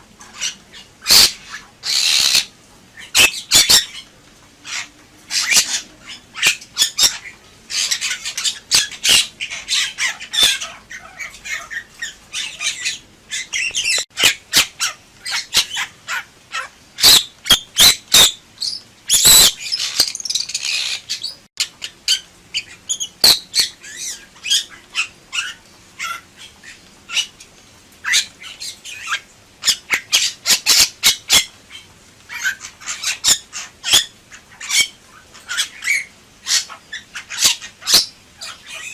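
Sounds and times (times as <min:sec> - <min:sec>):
bird squawking and chattering: 0:00.2 - 0:27.4, 0:28.0 - 0:38.9.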